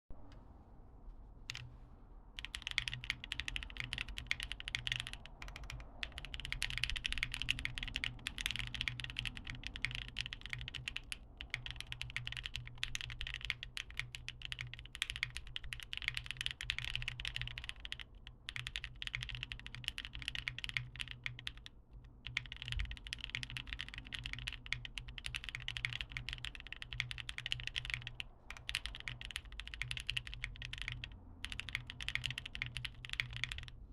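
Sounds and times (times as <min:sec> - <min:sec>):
mechanical keyboard typing: 0:02.4 - 0:33.8.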